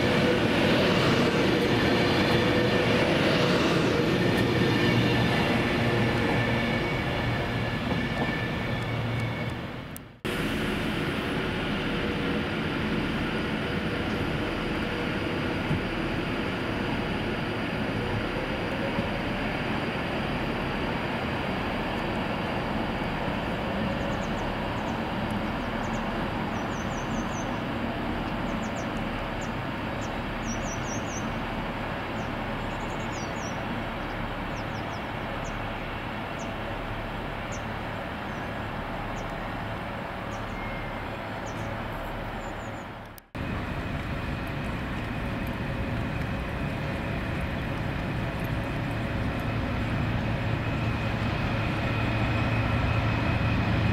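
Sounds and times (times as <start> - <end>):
diesel train noise: 0.0 - 53.9
electric train rumble and hiss: 0.0 - 53.9.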